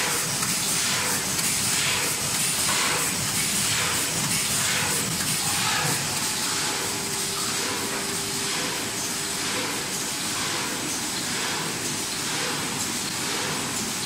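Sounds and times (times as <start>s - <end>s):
stamping machine running: 0.0s - 14.0s.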